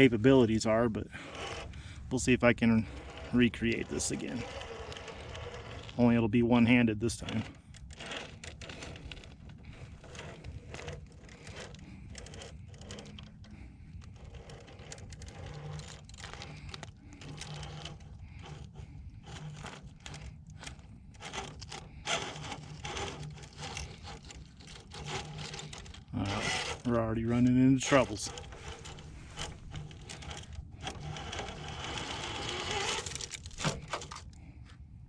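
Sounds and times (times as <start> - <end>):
tyres scraping on rock: 0.0 - 34.4
electric motor and gears humming: 0.0 - 34.5.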